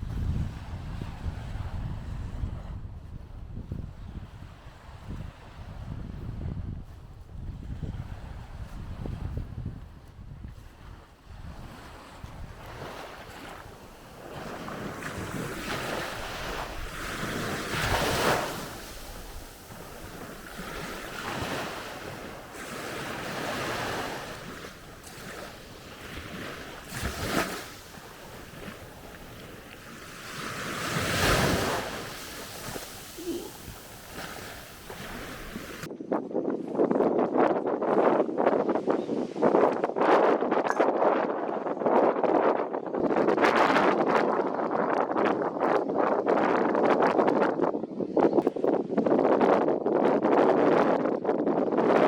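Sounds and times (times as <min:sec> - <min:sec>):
gusty wind buffeting microphone: 0:00.0 - 0:52.0.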